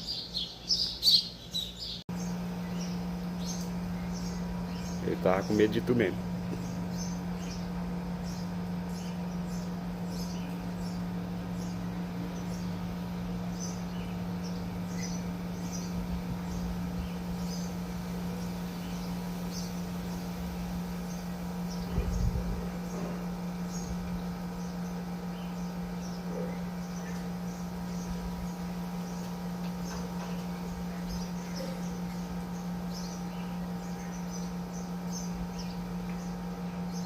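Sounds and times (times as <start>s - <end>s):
small bird chirping: 0.0s - 37.0s
steady low hum: 0.0s - 37.0s.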